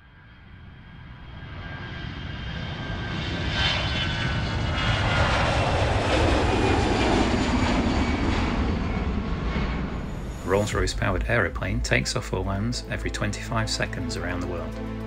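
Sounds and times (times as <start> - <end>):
jet engine roar: 0.0 - 14.7.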